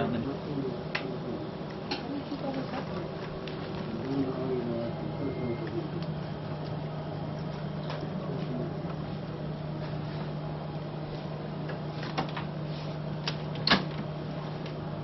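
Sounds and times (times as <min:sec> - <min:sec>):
low hum of machinery: 0:00.0 - 0:15.0.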